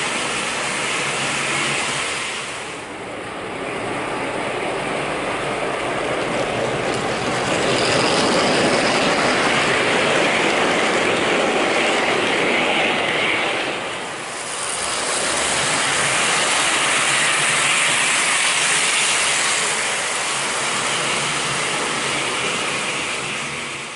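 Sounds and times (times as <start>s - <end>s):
model train rattling on rails: 0.0s - 23.9s.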